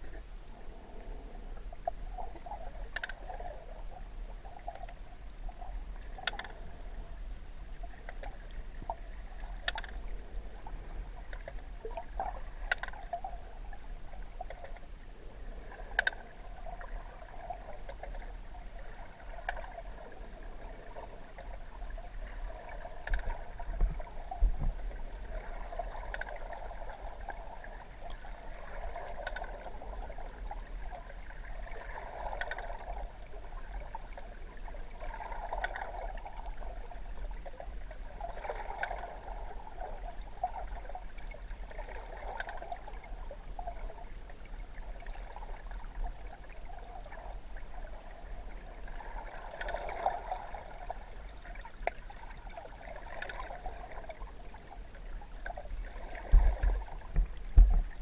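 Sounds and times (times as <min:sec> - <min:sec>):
low steady rumble: 0:00.0 - 0:58.0
underwater gurgling and sloshing: 0:00.0 - 0:58.0.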